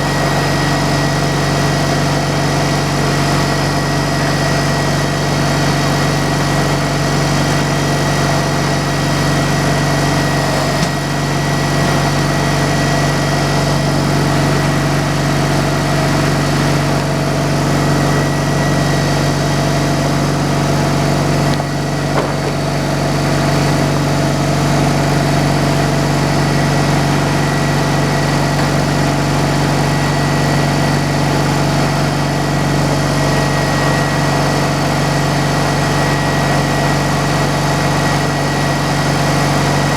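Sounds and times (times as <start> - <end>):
engine humming with high whine: 0.0 - 39.9.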